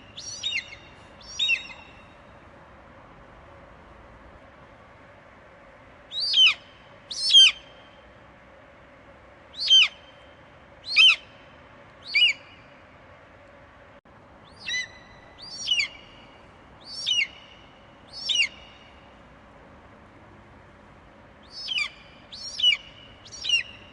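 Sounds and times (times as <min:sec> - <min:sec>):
faint background hiss: 0:00.0 - 0:23.9.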